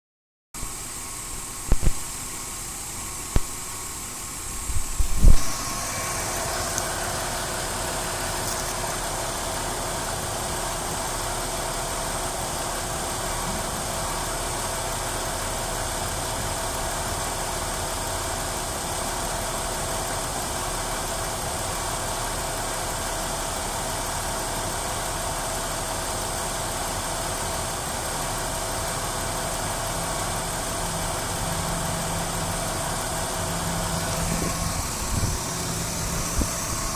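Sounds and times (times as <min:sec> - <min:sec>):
car engine idling with misfire: 0:00.7 - 0:36.9.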